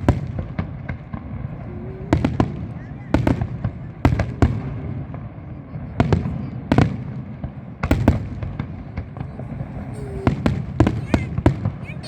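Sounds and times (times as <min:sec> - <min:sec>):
fireworks bangs: 0:00.0 - 0:12.0
low rumble of fireworks bursts: 0:00.0 - 0:12.0.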